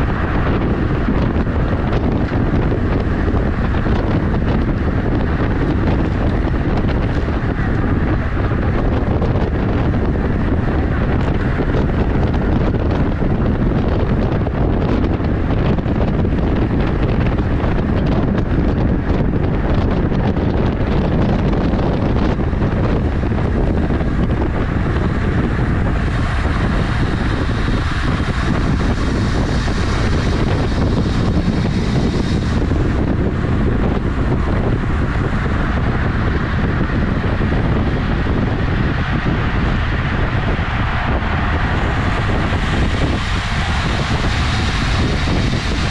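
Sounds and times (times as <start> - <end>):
wind roaring over microphone: 0.0 - 45.9.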